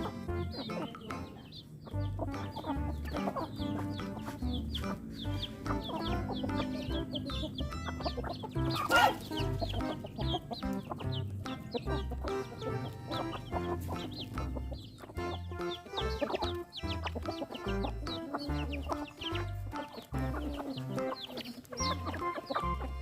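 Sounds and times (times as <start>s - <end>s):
background music with bass line: 0.0s - 23.0s
chickens clucking: 0.0s - 23.0s.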